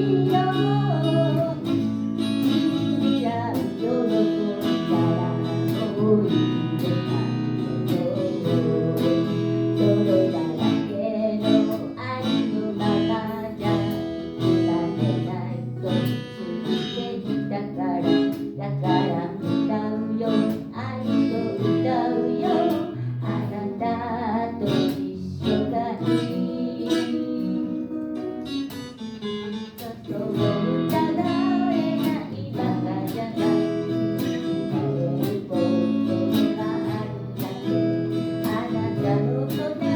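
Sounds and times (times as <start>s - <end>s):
person singing: 0.0s - 28.6s, 29.6s - 39.9s
strummed acoustic guitar: 0.0s - 39.9s.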